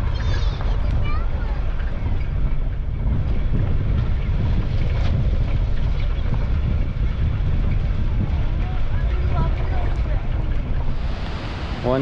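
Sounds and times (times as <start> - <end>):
tyre and wind noise: 0.0 - 12.0.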